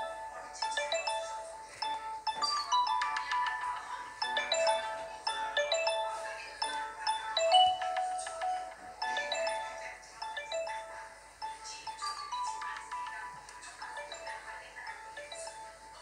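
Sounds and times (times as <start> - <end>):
phone ringtone melody: 0.0 - 16.0.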